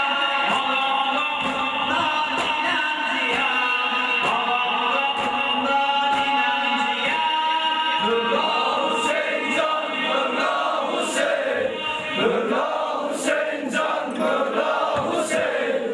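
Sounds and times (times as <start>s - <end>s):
men chanting in unison: 0.0s - 15.9s.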